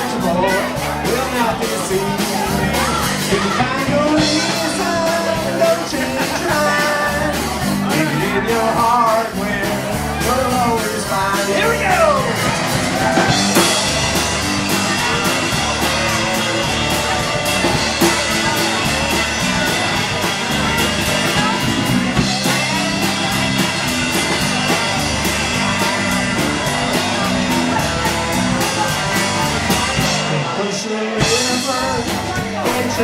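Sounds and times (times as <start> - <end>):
drum kit beat: 0.0 - 33.0
electric guitar: 0.0 - 33.0.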